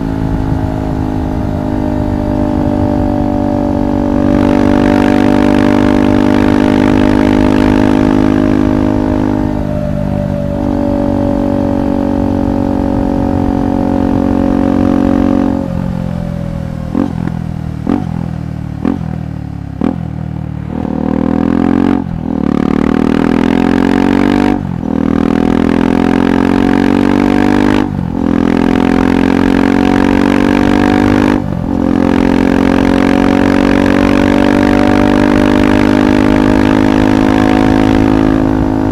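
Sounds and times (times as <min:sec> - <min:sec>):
engine throttle blips: 0:00.0 - 0:38.9
motorcycle engine accelerating: 0:00.0 - 0:38.9.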